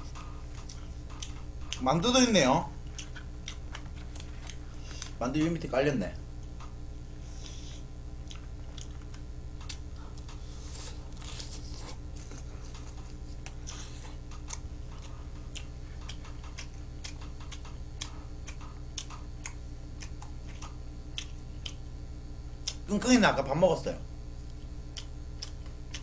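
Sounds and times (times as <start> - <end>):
person chewing food: 0.0 - 1.8, 2.7 - 5.2, 6.4 - 22.0, 22.6 - 22.8, 24.4 - 26.0
steady low hum: 0.0 - 26.0.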